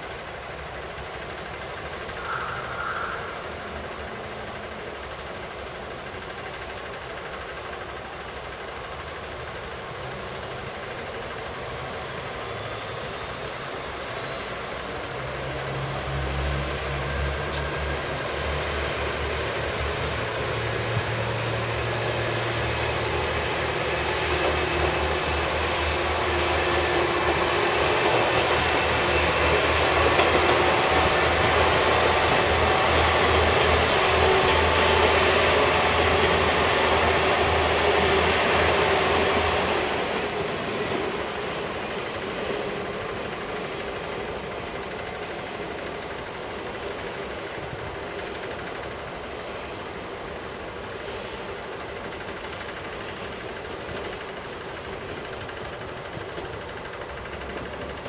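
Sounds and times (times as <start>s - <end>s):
diesel engine drone: 0.0s - 52.0s
wheel on rail rumble: 0.0s - 58.0s.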